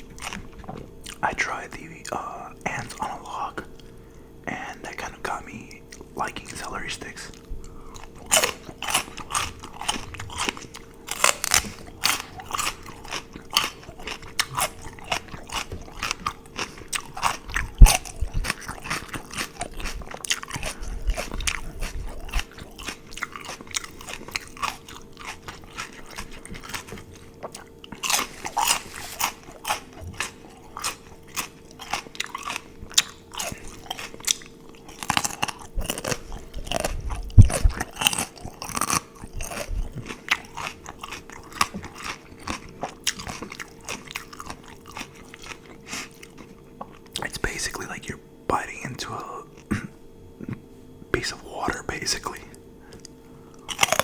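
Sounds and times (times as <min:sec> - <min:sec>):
crisp wet crunching chews: 0:00.0 - 0:54.0.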